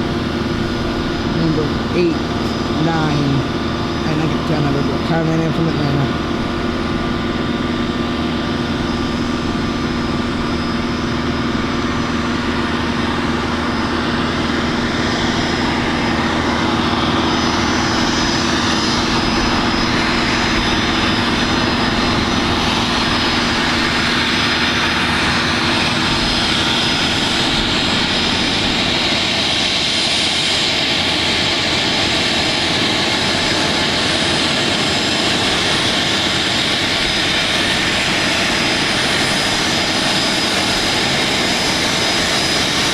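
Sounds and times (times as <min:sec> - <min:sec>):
jet engines whining while taxiing: 0:00.0 - 0:42.9.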